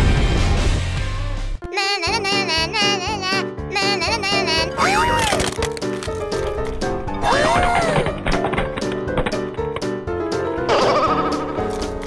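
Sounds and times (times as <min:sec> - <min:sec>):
light plucked background music: 0:01.6 - 0:12.0.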